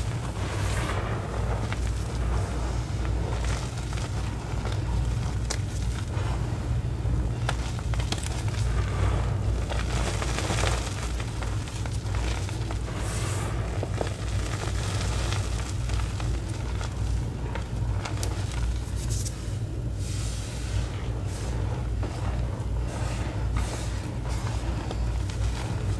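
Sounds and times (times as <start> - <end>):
powder crunching and rustling: 0.0 - 25.9
steady low hum: 0.0 - 25.9.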